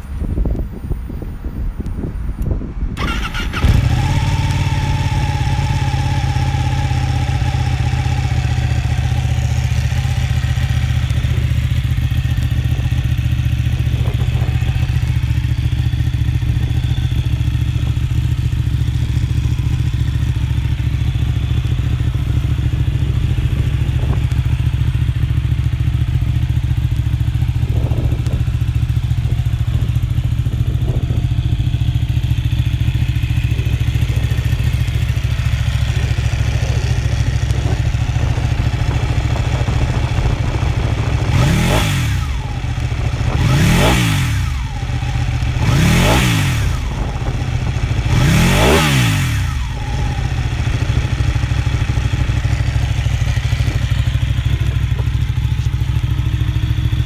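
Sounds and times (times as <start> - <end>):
motorcycle engine idling: 0.0 - 57.0
motorcycle engine cranking and starting: 2.4 - 57.0.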